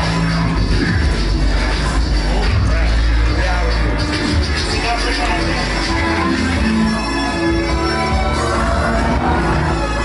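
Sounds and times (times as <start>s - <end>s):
loud club music with deep bass: 0.0s - 10.0s.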